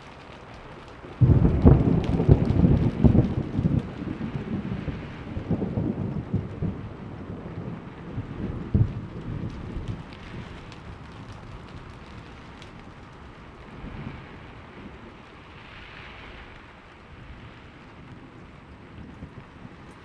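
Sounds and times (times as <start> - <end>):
steady rain: 0.0 - 20.0
thunder rumble: 0.0 - 20.0.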